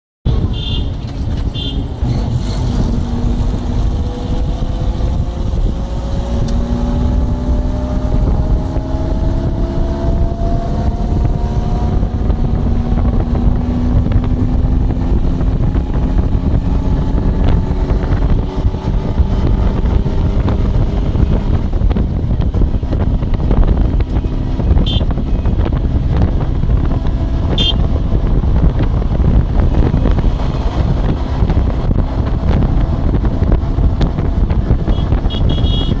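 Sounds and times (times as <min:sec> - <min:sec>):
road rumble: 0:00.2 - 0:36.0
car engine: 0:00.3 - 0:36.0
wind buffeting microphone: 0:00.3 - 0:36.0.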